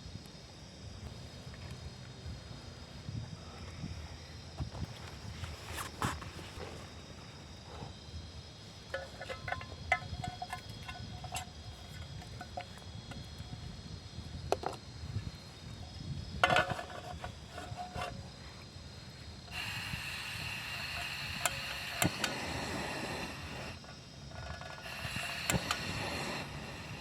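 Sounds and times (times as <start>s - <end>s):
insects chirping: 0.0s - 27.0s
steady hiss: 0.0s - 27.0s.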